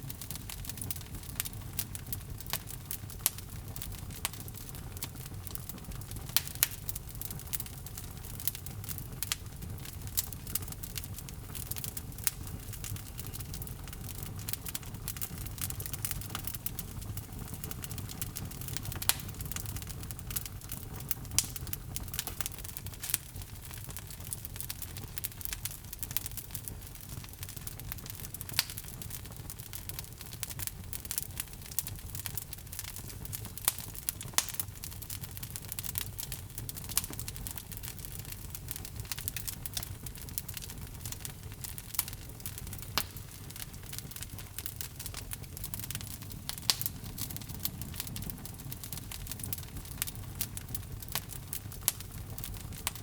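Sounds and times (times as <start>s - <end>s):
logs crackling and popping: 0.0s - 53.0s
low rumble of flames: 0.0s - 53.0s.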